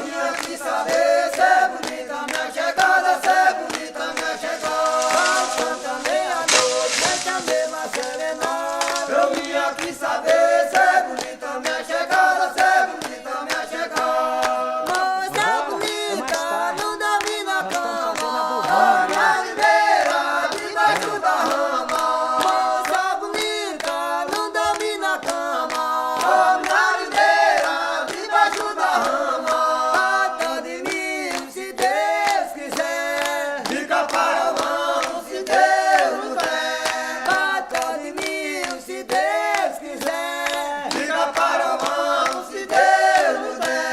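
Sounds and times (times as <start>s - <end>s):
people singing together: 0.0s - 43.9s.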